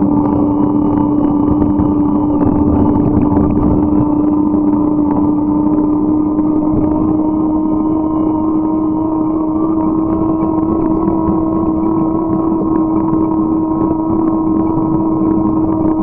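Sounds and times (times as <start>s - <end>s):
droning hum: 0.0s - 16.0s.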